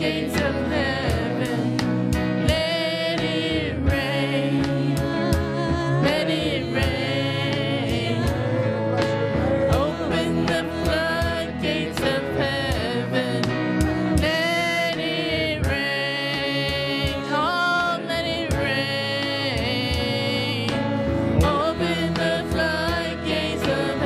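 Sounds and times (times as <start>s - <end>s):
band with bass: 0.0s - 24.0s.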